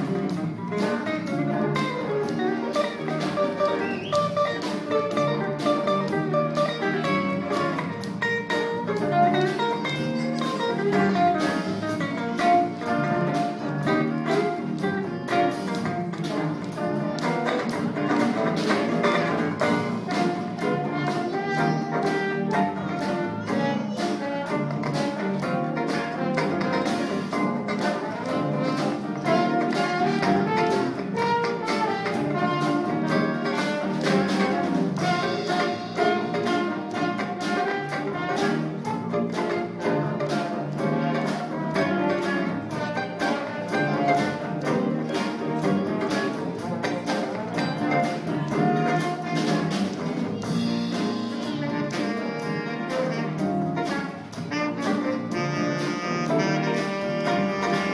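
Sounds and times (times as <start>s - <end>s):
jazz ensemble playing live: 0.0s - 57.9s.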